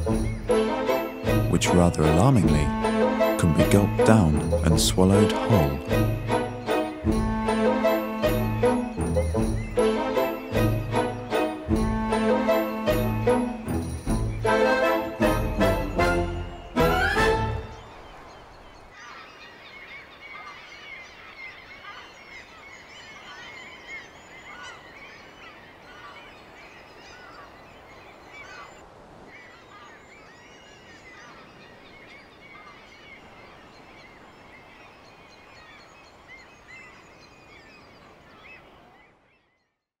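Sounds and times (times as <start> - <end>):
seabirds calling: 0.0 - 39.8.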